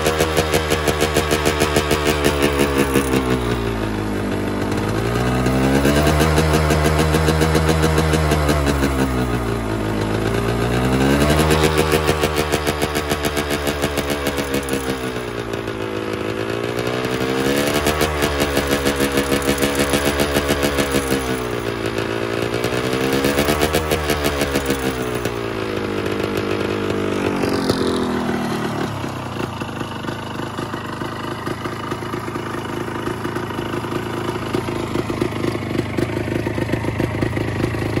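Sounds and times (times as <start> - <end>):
two-stroke engine revving: 0.0 - 38.0.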